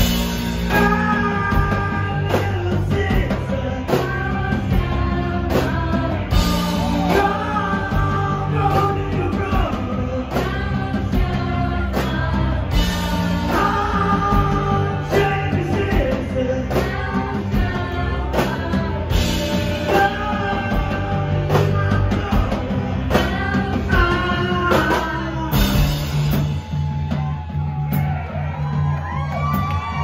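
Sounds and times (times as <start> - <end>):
lead vocal singing: 0.0 - 27.2
bass: 0.0 - 30.0
drum beat: 0.0 - 30.0.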